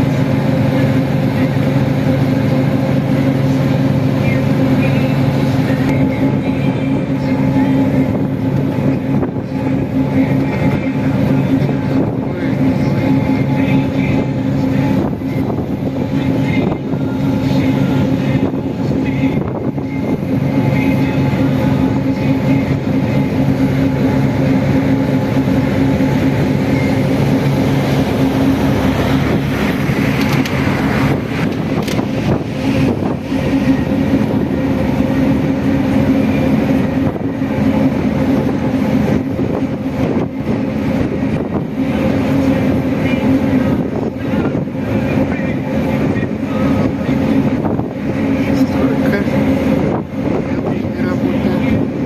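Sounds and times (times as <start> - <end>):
boat engine humming: 0.0 - 52.0
water rushing: 0.0 - 52.0.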